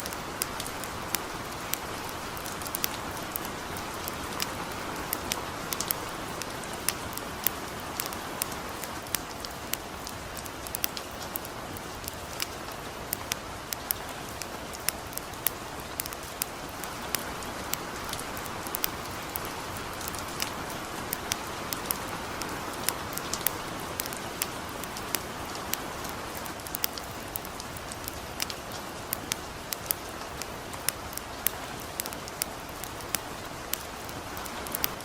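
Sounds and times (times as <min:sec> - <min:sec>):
light rain: 0:00.0 - 0:35.0
wood fire crackling: 0:00.0 - 0:35.0.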